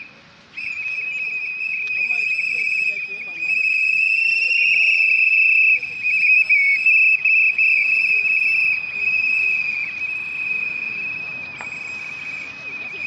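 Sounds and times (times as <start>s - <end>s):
insects trilling: 0.6s - 13.0s.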